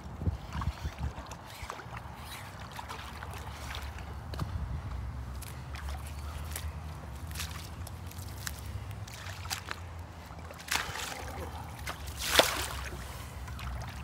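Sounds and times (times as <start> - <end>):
water sloshing around boots: 0.0 - 14.0.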